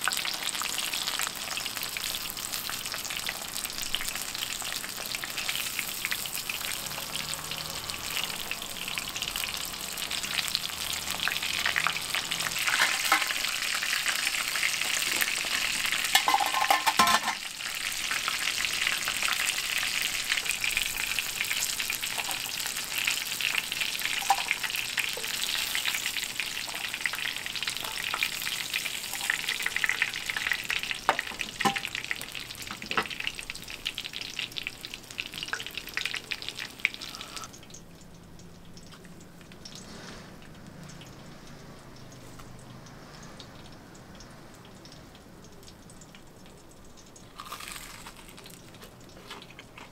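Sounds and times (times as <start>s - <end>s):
chicken deep-frying sizzle: 0.0s - 49.9s.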